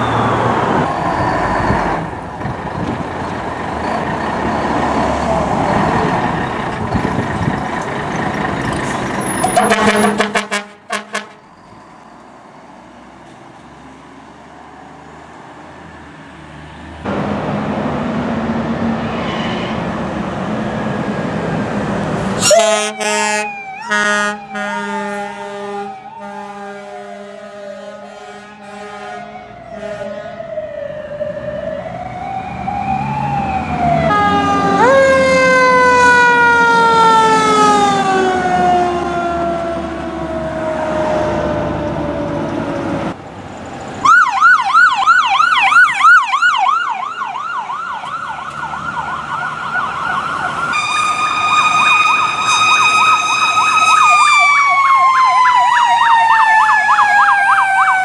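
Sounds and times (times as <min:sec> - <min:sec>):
fire truck sirens: 0:00.0 - 0:58.0.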